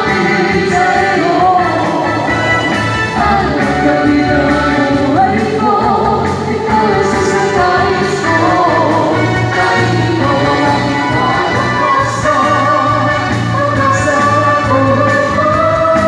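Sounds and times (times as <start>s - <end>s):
group of singers: 0.0s - 16.0s.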